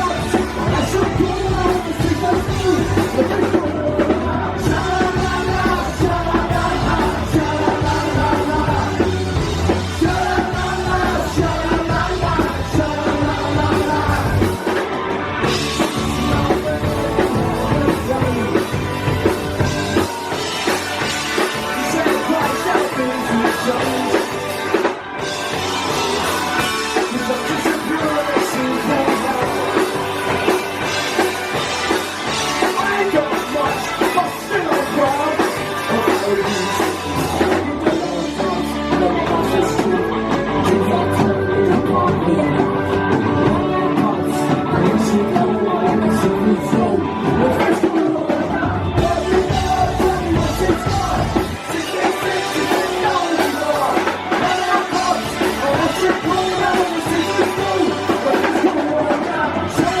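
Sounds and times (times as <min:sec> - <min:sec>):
live rock band playing: 0:00.0 - 1:00.0.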